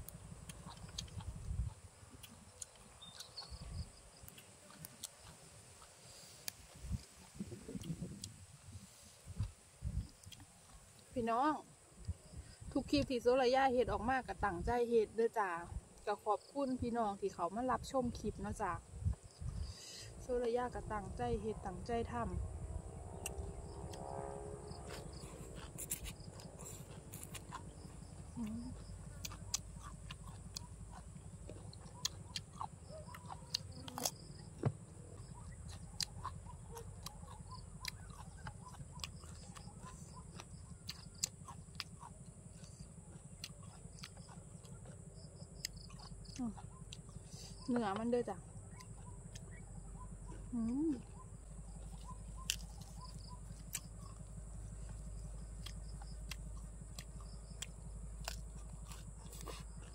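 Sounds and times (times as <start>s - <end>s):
chewing and crunching food: 0.0s - 59.9s
steady low hum: 0.0s - 59.9s.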